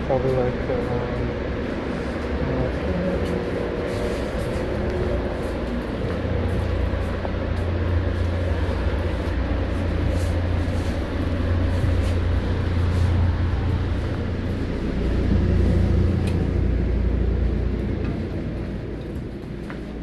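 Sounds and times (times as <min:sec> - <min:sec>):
train coach low hum: 0:00.0 - 0:20.0.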